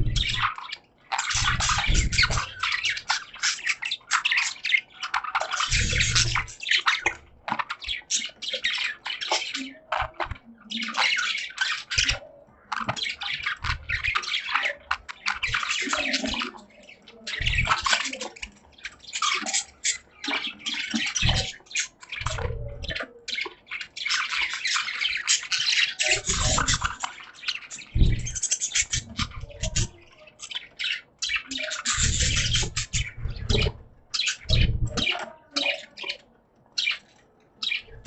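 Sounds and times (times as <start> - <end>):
budgerigars chattering and warbling: 0.0 - 38.0.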